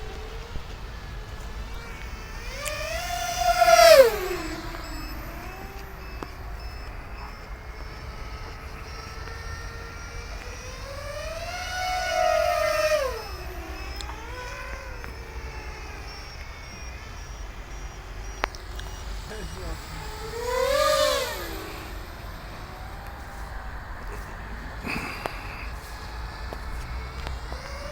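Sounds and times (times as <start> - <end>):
quadcopter motors whining: 0.0 - 27.9.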